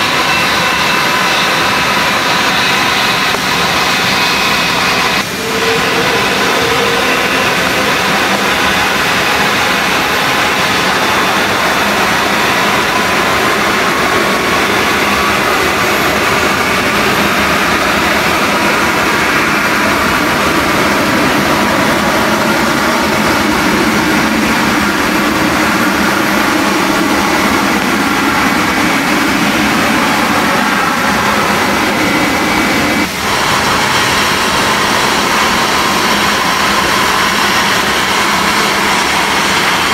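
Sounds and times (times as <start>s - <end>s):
jet airliner taxiing: 0.0s - 39.9s
jet engines at takeoff thrust: 0.0s - 39.9s.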